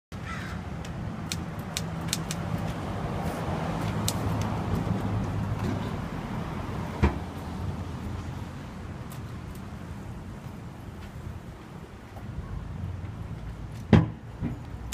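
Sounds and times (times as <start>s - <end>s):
street traffic rumble: 0.1s - 14.9s.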